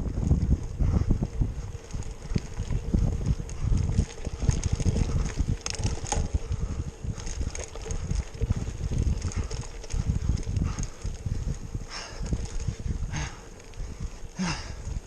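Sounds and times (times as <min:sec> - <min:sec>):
faint ticks and rattles: 0:00.0 - 0:15.0
wind buffeting microphone: 0:00.0 - 0:15.0.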